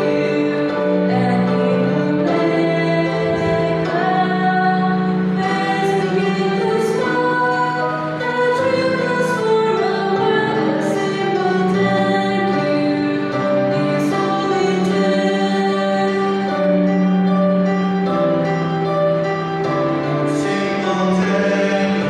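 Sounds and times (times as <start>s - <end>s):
vocal quartet singing in harmony: 0.0s - 22.0s.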